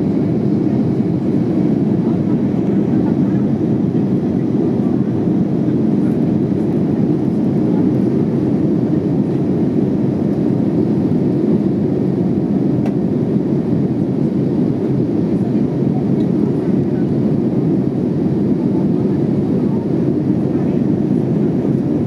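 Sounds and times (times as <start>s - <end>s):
jet engine cabin drone: 0.0s - 22.0s.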